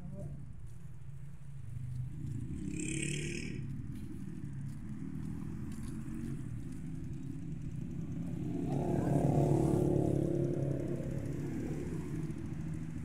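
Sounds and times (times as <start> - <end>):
low engine hum: 0.0 - 13.0
car passing: 1.6 - 13.0.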